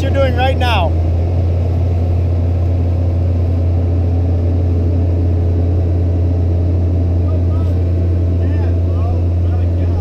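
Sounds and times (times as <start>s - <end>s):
excavator diesel engine drone: 0.0s - 10.0s.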